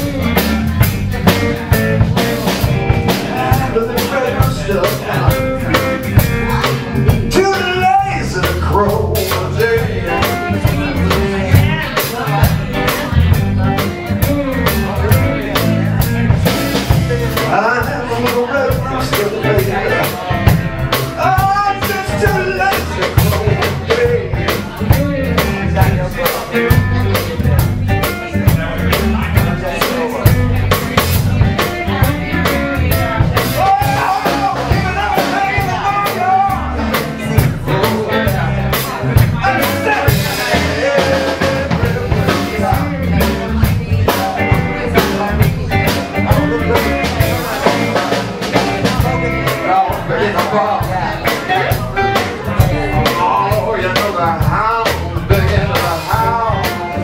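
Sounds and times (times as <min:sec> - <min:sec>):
drum kit steady beat: 0:00.0 - 0:57.0
electric bass: 0:00.0 - 0:57.0
electric guitar: 0:00.0 - 0:57.0.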